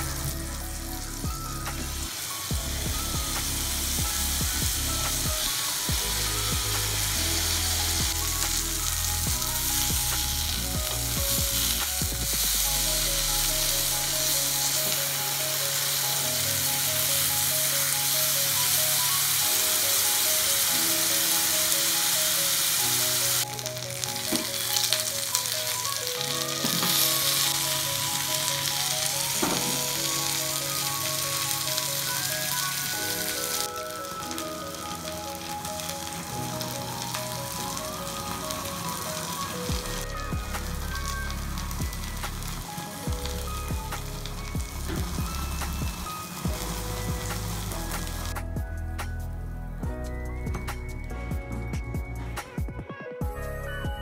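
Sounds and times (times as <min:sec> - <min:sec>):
chicken sizzling in hot oil: 0:00.0 - 0:48.4
background music of held notes: 0:00.0 - 0:54.0.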